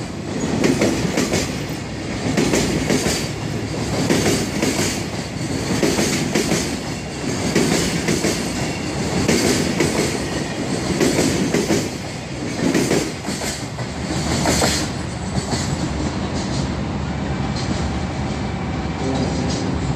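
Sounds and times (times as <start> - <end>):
train rumble: 0.0 - 19.9.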